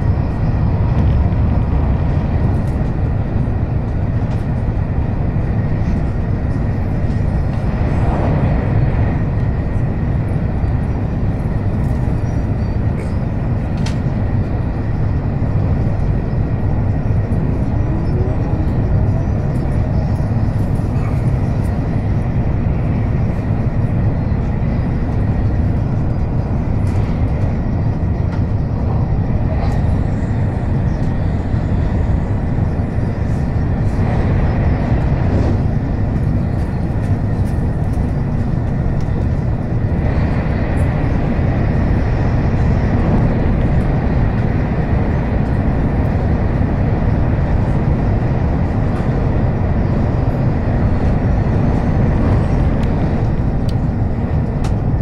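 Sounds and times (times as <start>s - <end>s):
train running noise from inside: 0.0s - 55.0s.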